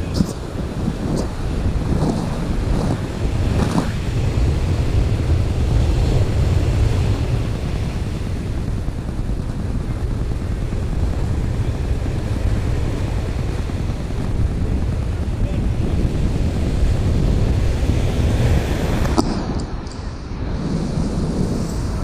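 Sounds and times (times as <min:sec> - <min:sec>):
surf breaking on beach: 0:00.0 - 0:19.8
wind buffeting microphone: 0:00.0 - 0:22.0.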